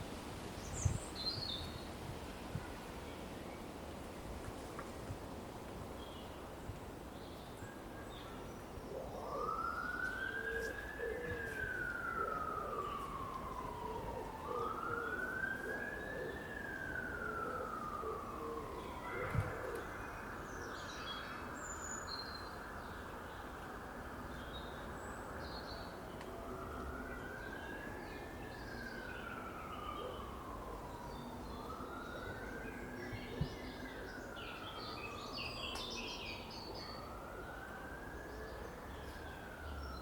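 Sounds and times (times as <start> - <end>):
distant siren wailing: 7.8 - 40.0.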